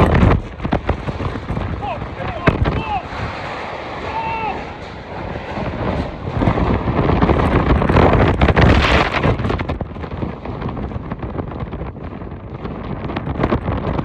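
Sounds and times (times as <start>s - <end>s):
rain: 0.0s - 14.0s
wind roaring on microphone: 0.0s - 14.0s.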